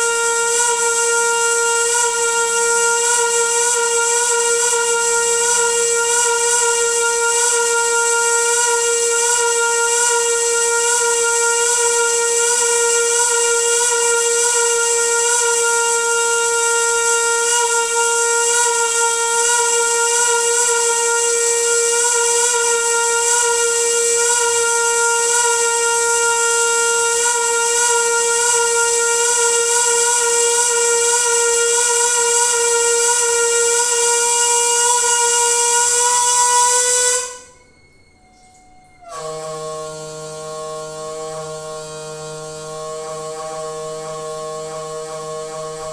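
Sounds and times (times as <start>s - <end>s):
hiss: 0.0s - 37.6s
water pipe whistling hum: 0.0s - 45.9s.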